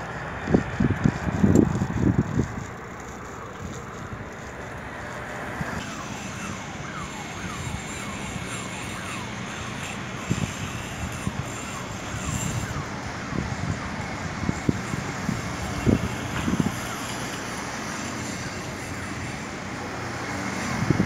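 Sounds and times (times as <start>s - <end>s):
wind buffeting microphone: 0.0s - 4.5s, 5.4s - 19.3s, 20.5s - 21.0s.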